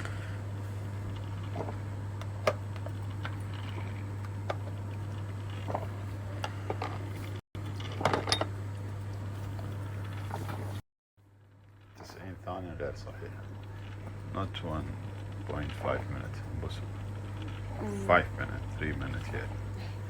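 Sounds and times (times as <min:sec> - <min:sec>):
coffee maker humming: 0:00.0 - 0:10.8, 0:11.8 - 0:20.0.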